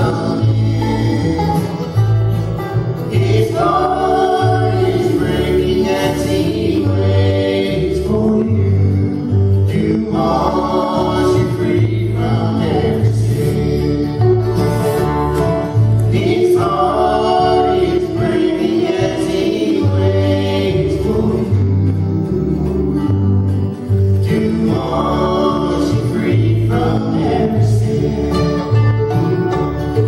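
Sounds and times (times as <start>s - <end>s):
acoustic guitar: 0.0s - 30.0s
band singing in harmony: 0.0s - 30.0s
banjo: 0.0s - 30.0s
mandolin: 0.0s - 30.0s
upright bass: 0.0s - 30.0s.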